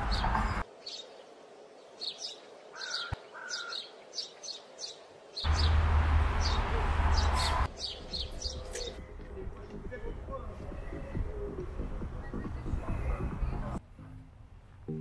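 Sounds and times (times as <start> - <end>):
songbirds chirping: 0.0 - 13.8.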